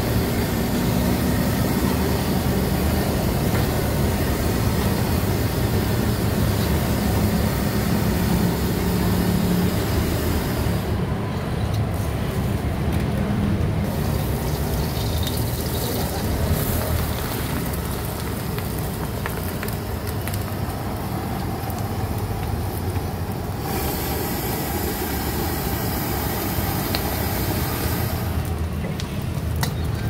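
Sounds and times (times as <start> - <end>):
frying hiss: 0.0 - 30.0
gas burner roaring: 0.0 - 30.0.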